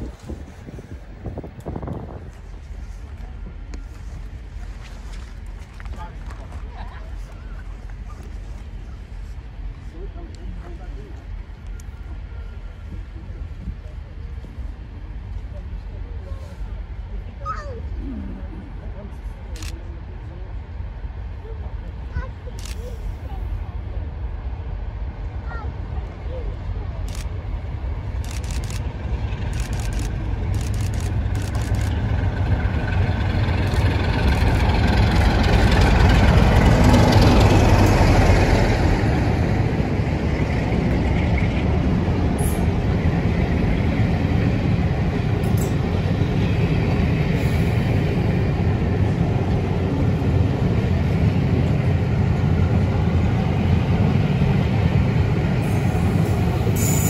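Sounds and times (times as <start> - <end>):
passenger train passing: 0.0 - 57.0.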